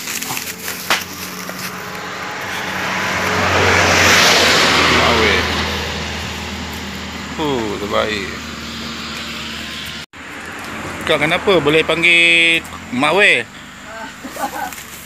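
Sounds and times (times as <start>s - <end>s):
car passing by: 0.4s - 13.8s.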